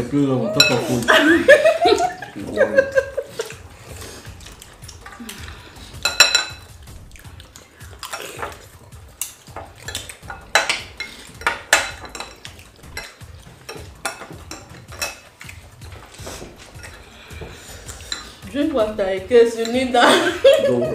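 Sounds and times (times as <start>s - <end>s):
utensils clinking against dishes: 0.4s - 2.2s, 2.8s - 6.7s, 7.8s - 18.8s, 19.4s - 20.9s.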